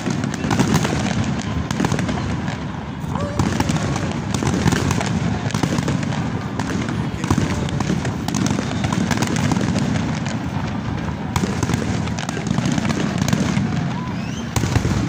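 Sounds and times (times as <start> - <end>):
fireworks booming: 0.0 - 15.0
fireworks crackling: 0.0 - 15.0
sharp firework cracks: 0.0 - 15.0.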